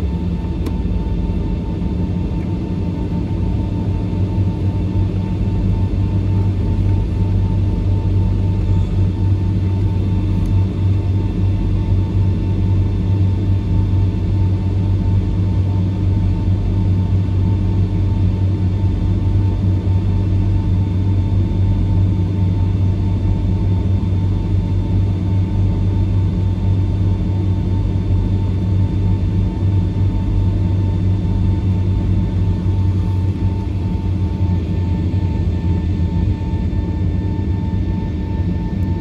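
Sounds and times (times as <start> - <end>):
aircraft cabin engine drone: 0.0 - 39.0.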